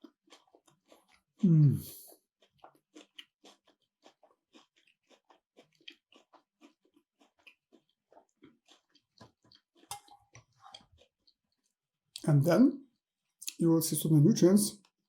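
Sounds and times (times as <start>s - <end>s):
close chewing sounds: 0.0s - 12.3s.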